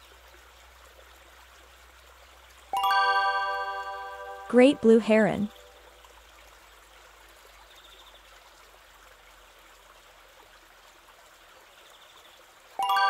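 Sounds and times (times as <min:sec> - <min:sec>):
faint flowing water: 0:00.0 - 0:13.0.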